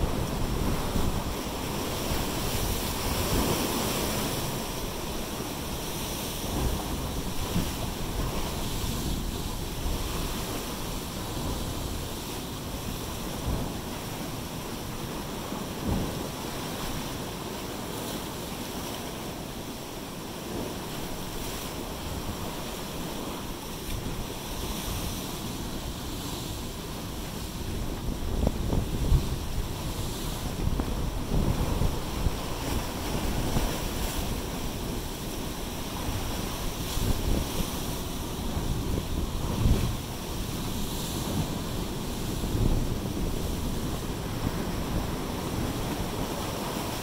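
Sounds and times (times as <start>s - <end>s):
wind buffeting microphone: 0.0s - 16.4s, 20.4s - 47.0s
surf washing over rocks: 0.0s - 47.0s.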